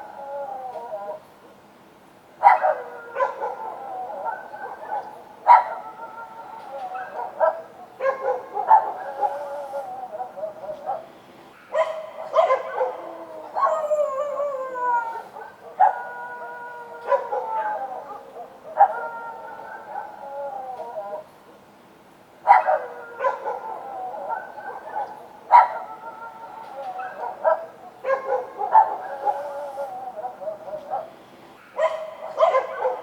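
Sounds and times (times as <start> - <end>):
dogs howling: 0.0 - 1.3, 2.4 - 11.1, 11.7 - 21.3, 22.5 - 33.0
dogs barking: 2.4 - 14.5, 15.3 - 21.2, 22.4 - 33.0.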